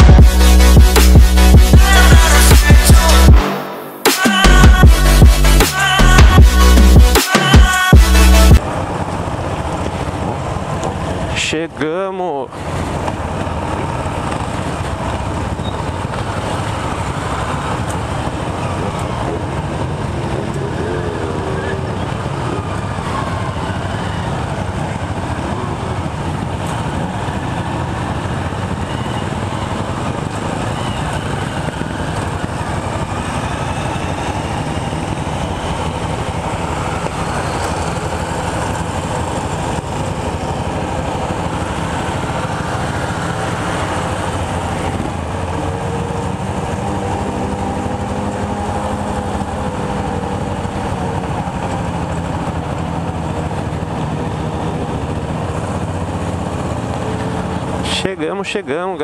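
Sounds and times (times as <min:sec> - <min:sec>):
motorcycle engines running: 0:00.0 - 0:03.4, 0:07.9 - 0:59.0
road and traffic noise: 0:00.0 - 0:59.0.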